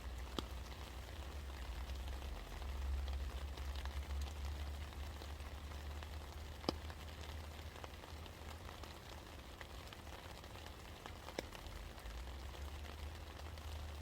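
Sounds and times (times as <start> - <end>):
steady rain falling: 0.0 - 14.0
water drips ticking: 0.0 - 14.0.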